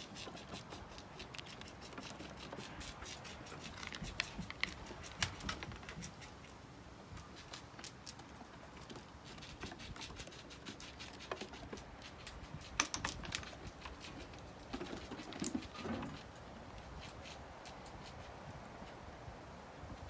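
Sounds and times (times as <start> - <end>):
squirrel claws pattering on wood: 0.0 - 19.0.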